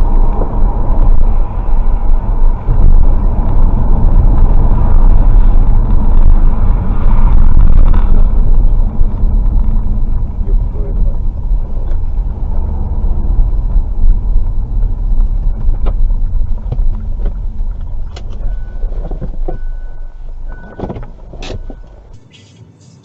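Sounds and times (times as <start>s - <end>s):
car driving rumble: 0.0s - 23.0s.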